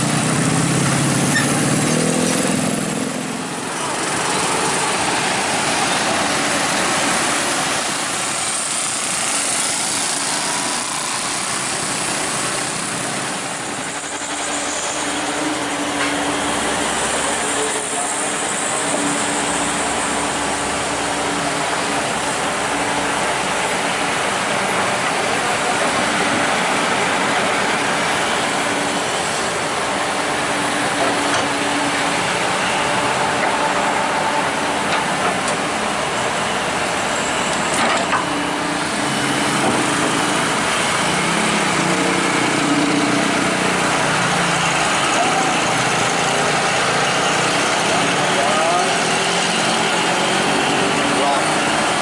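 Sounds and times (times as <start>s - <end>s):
excavator diesel engine running: 0.0s - 52.0s
heavy road traffic: 0.0s - 52.0s.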